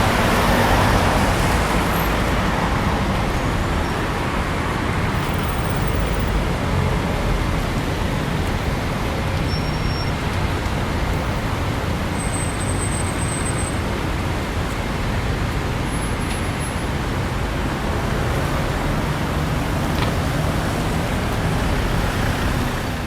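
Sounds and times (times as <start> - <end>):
city traffic: 0.0 - 23.0.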